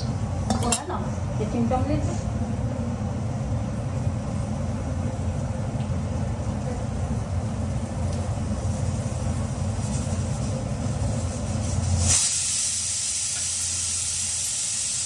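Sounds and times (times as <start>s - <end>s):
gas stove burner rumble: 0.0s - 15.0s
food frying in oil: 1.6s - 15.0s.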